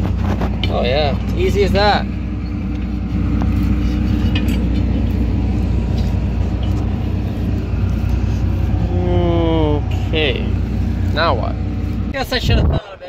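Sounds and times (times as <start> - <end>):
engine idling: 0.0 - 12.6.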